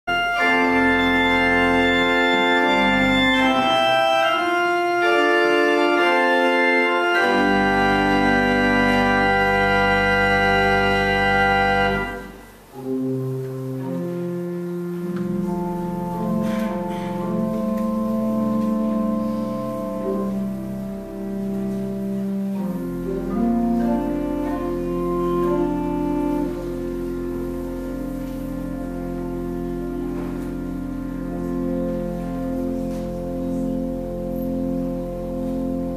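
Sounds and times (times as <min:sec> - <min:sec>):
pipe organ playing sustained chords: 0:00.1 - 0:35.9.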